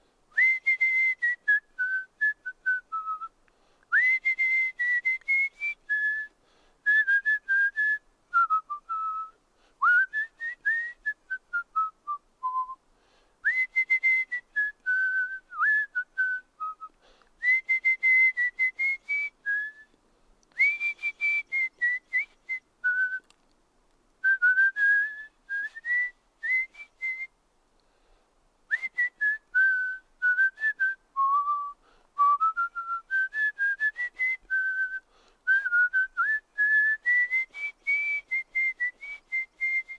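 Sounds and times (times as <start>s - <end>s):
person whistling: 0.3s - 3.3s, 3.9s - 12.8s, 13.4s - 23.4s, 24.2s - 27.3s, 28.7s - 39.9s.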